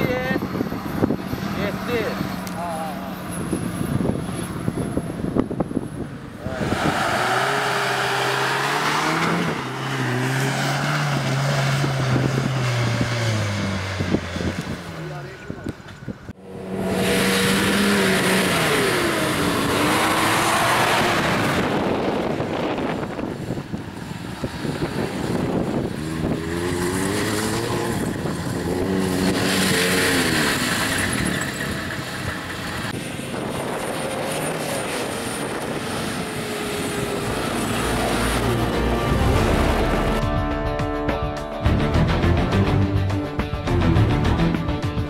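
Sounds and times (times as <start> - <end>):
off-road engines revving: 0.0 - 40.6.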